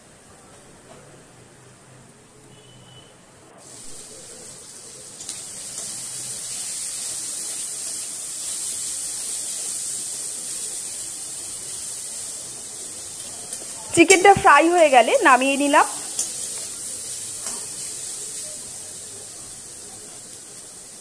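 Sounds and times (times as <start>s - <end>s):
chicken sizzling in hot oil: 3.6s - 21.0s.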